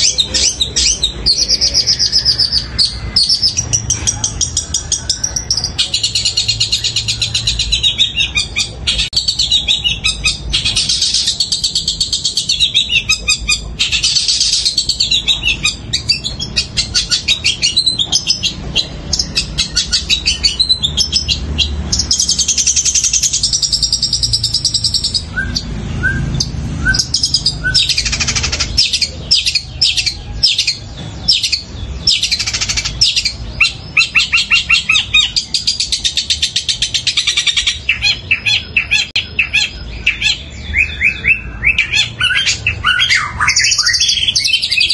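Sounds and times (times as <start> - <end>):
bird singing rapid high chirps: 0.0 - 44.9.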